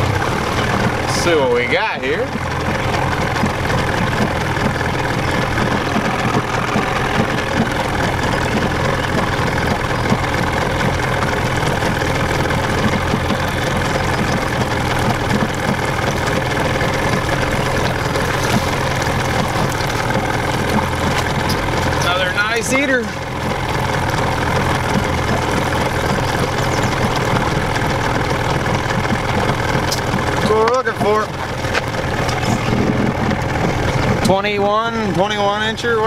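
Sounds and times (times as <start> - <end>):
outboard motor running: 0.0 - 36.0.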